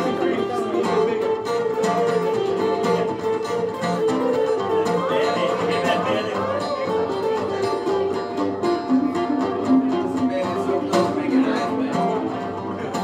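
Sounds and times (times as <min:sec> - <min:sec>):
acoustic guitars strumming: 0:00.0 - 0:13.0.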